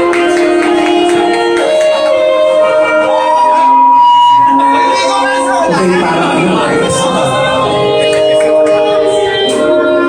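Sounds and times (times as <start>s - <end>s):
instrumental music with held strings: 0.0s - 10.0s.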